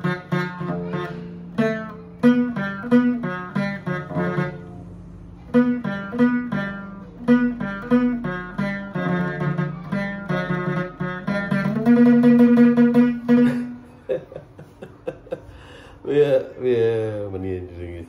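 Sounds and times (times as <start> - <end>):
plucked two-string lute: 0.0 - 14.6.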